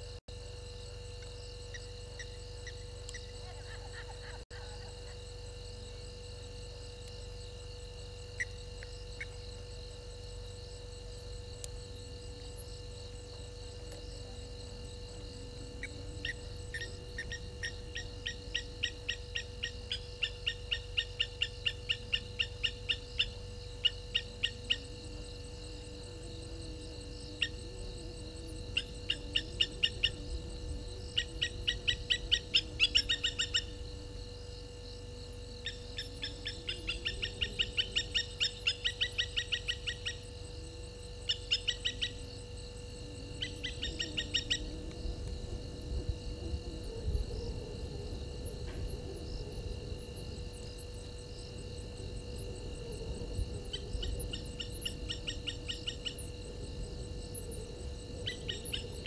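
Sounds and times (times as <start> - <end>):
constant low hum: 0.0 - 59.0
insect drone: 0.0 - 59.0.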